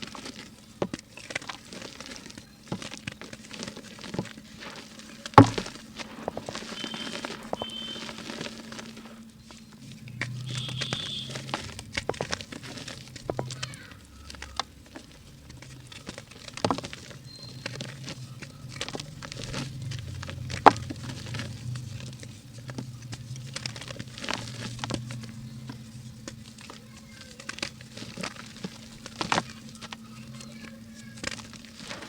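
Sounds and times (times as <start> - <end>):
mud crumbling crackles: 0.0 - 32.0.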